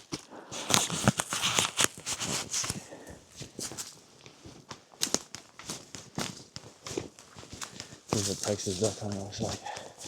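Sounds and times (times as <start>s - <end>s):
footsteps walking outdoors: 0.0s - 10.0s
rustling: 0.0s - 10.0s.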